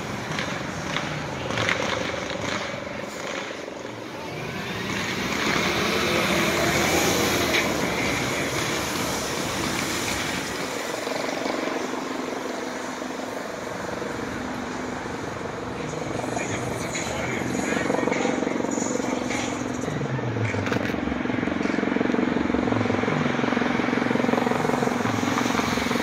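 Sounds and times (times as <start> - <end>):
helicopter rotor and engine drone: 0.0 - 26.0.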